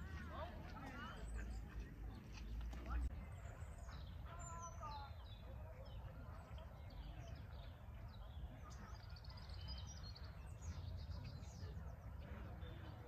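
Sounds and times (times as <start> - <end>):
small birds chirping and singing: 0.0 - 13.0.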